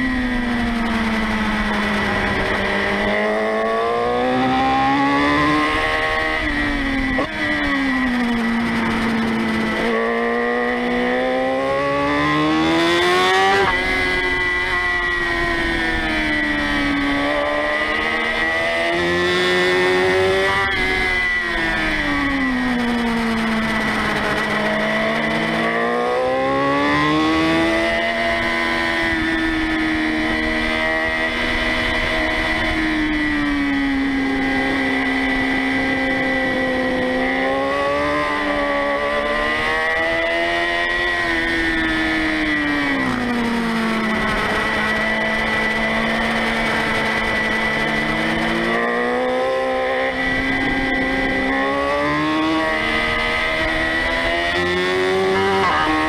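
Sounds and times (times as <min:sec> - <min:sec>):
high whine: 0:00.0 - 0:56.0
motorcycle engine revving: 0:00.0 - 0:56.0.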